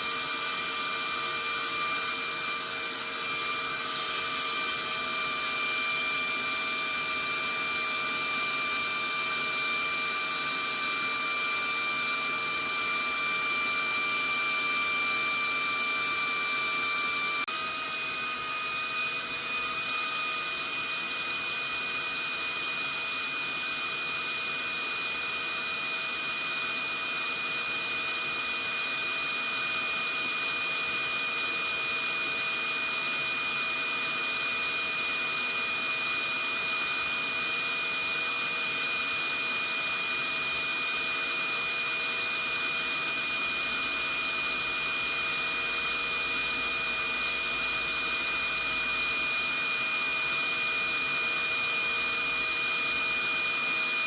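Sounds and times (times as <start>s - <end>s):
vacuum cleaner motor whining: 0.0s - 54.0s.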